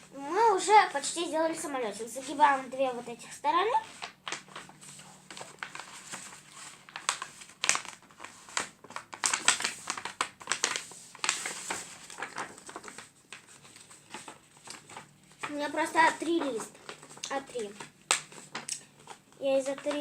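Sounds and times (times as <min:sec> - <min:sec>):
paper crinkling and rustling: 0:02.2 - 0:20.0.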